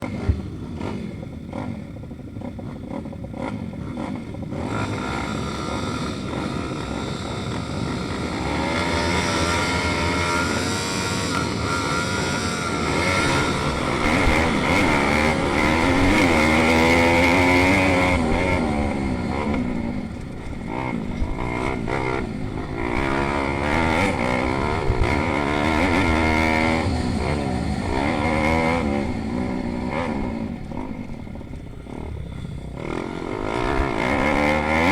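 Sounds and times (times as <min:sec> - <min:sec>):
pit bike engines revving: 0:00.0 - 0:34.9.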